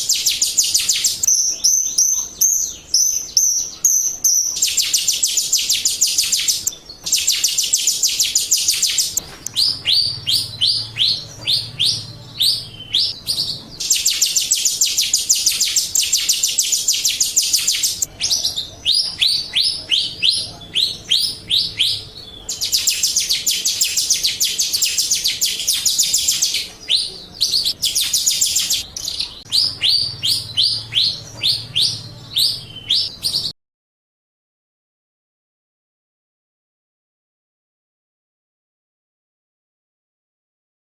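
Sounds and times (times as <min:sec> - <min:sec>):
starling singing: 0:00.0 - 0:33.5.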